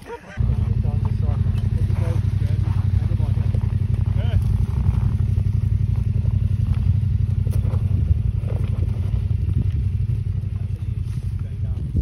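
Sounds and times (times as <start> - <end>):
motorcycle engine at low revs: 0.4 - 12.0.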